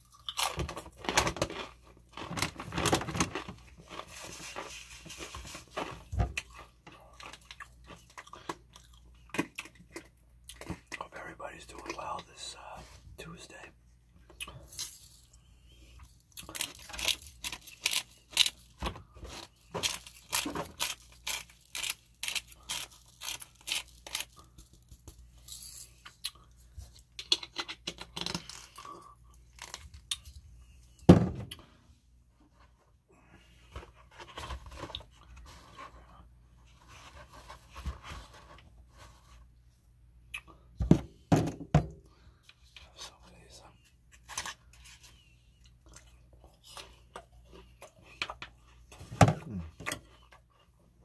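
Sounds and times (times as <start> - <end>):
crinkling and scraping handling noise: 0.0 - 39.9, 40.5 - 51.0.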